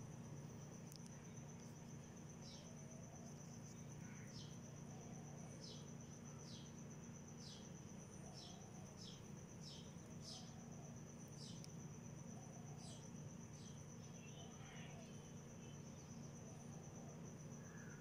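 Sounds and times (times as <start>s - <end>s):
cricket trill: 0.0s - 18.0s
low steady hum: 0.0s - 18.0s.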